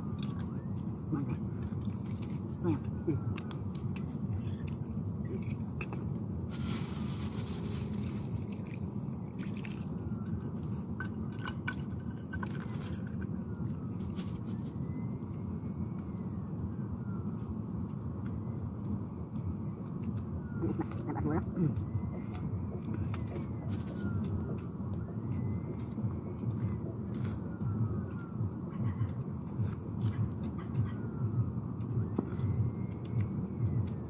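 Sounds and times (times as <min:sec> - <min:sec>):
low background rush: 0:00.0 - 0:34.0.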